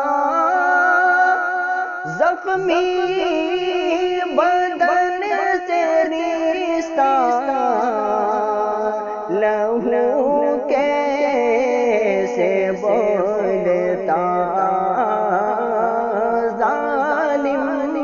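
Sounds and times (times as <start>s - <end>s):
person singing sorrowful verses: 0.0s - 18.0s.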